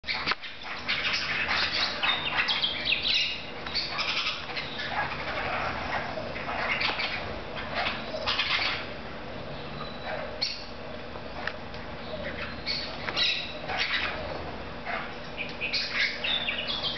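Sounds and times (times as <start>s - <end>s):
parrots chattering and squawking: 0.0s - 16.9s.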